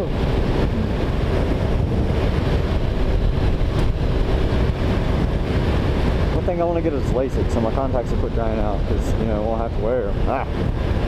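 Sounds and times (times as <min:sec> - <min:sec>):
motorcycle engine hum: 0:00.0 - 0:11.0
wind rush on microphone: 0:00.0 - 0:11.0.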